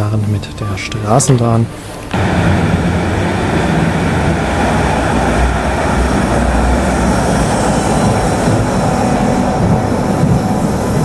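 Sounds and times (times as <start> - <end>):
tram wheels rumbling on rails: 1.7 - 11.0.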